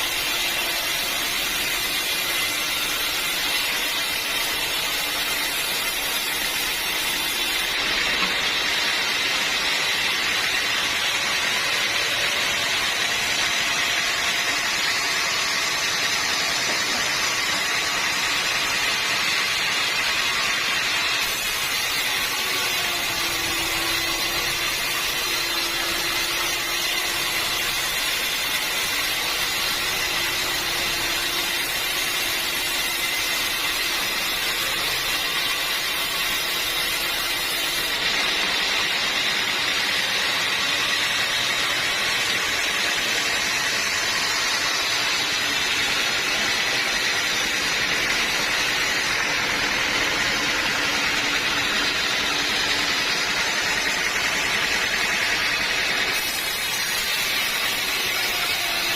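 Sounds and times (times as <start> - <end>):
sawmill saw cutting log: 0.0 - 58.9.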